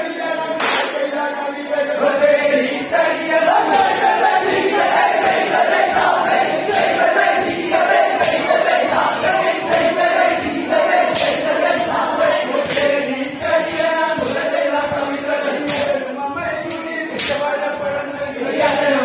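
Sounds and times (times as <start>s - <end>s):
men singing in unison: 0.0s - 19.0s
sharp beats: 2.1s - 19.0s.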